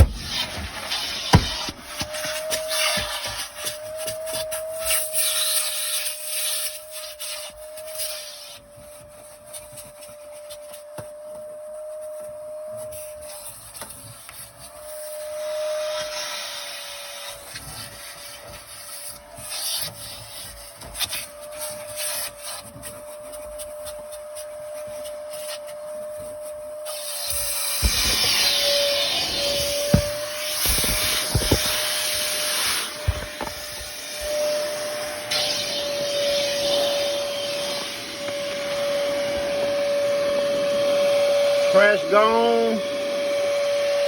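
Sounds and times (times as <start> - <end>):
nozzle scraping over carpet: 0.0 - 44.0
vacuum cleaner motor whine: 0.0 - 44.0.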